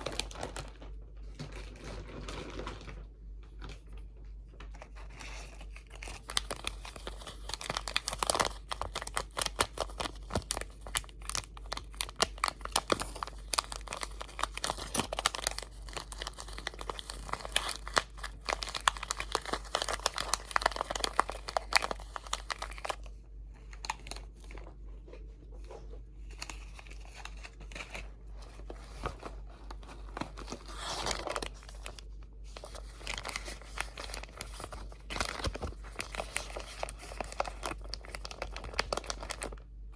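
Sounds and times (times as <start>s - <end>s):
crinkly material crackling: 0.0s - 39.9s.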